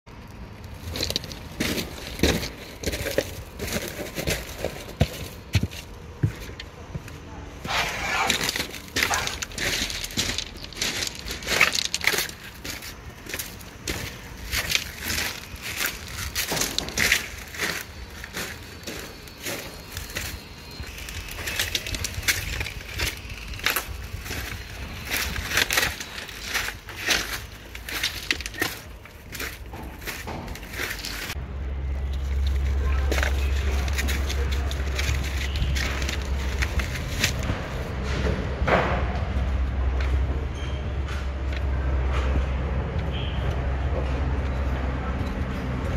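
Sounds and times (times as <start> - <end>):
footsteps on pebbles: 0.5 - 38.2.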